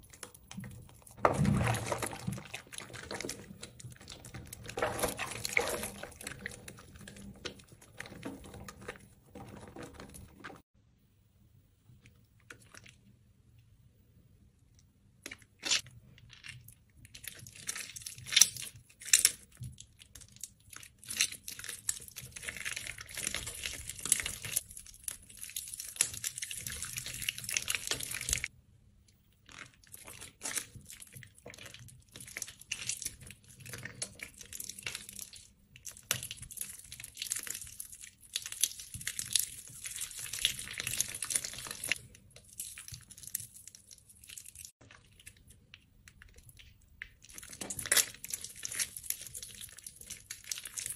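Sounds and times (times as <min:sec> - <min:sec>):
wet soap crunching and crackling: 0:00.0 - 0:10.7, 0:11.9 - 0:13.2, 0:14.6 - 0:50.9.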